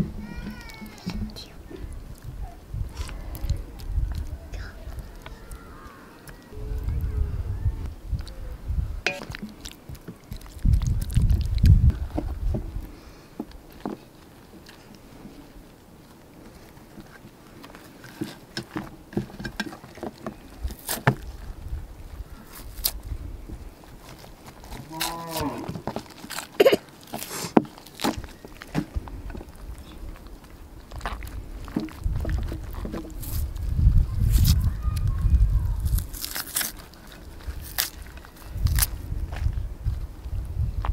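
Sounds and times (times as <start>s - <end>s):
wet clicks and rustles of handling: 0.3s - 6.6s, 9.1s - 40.0s.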